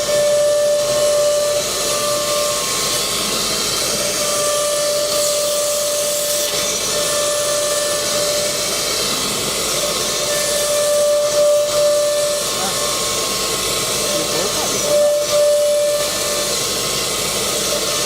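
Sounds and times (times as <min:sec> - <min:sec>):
cnc router hissing: 0:00.0 - 0:18.0
high spindle whine: 0:00.0 - 0:18.0.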